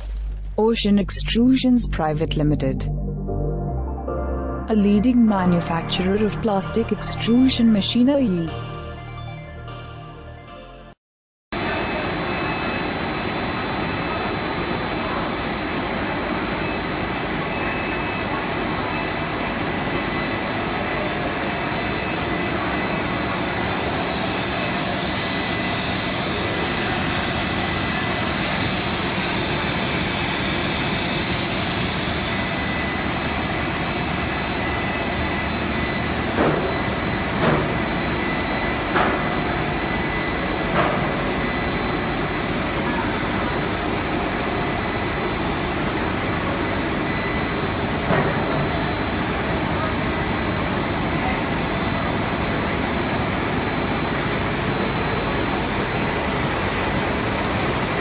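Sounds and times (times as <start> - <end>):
extrusion machine noise with hiss: 11.6 - 58.0.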